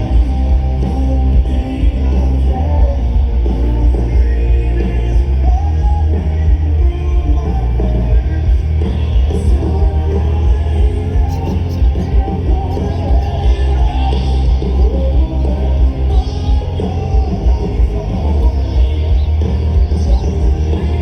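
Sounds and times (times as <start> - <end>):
person singing: 0.0 - 21.0
rock band playing live: 0.0 - 21.0.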